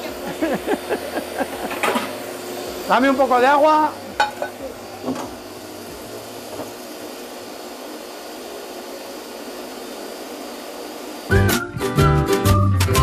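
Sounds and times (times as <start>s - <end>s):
blender running: 0.0s - 12.1s.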